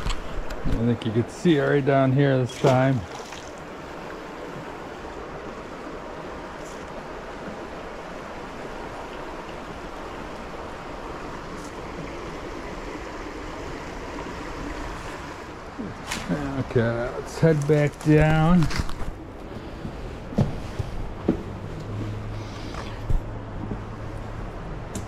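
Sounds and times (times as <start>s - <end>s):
creek water flowing: 0.0s - 25.0s.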